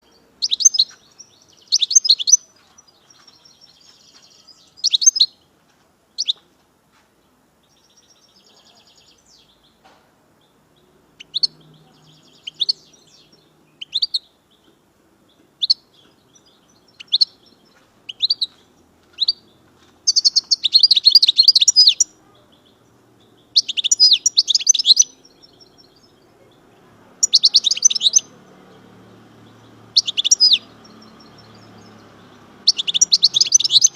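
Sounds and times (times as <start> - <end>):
finch calling and singing: 0.0 - 5.5, 6.2 - 6.4, 7.6 - 9.8, 10.4 - 33.9.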